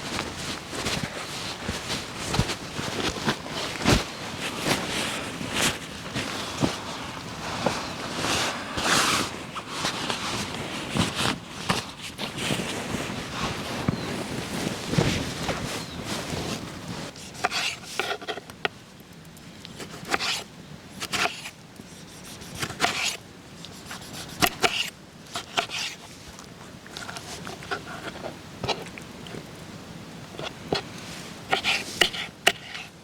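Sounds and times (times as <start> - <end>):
wood rubbing and scraping: 0.0 - 18.5, 21.0 - 29.6, 30.4 - 33.0.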